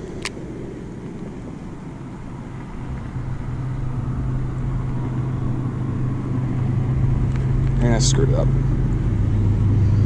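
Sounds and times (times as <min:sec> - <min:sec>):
low rumbling background: 0:00.0 - 0:10.0
vehicle engine hum: 0:00.0 - 0:10.0.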